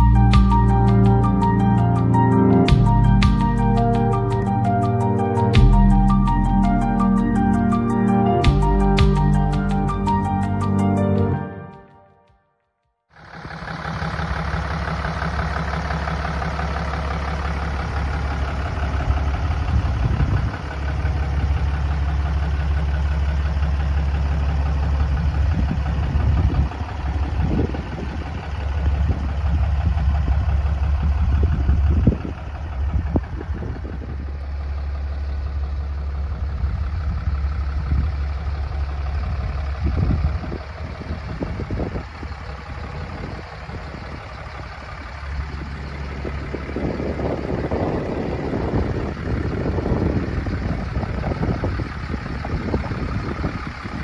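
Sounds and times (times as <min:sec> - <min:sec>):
diesel truck engine idling: 0:00.0 - 0:12.3, 0:13.1 - 0:54.0.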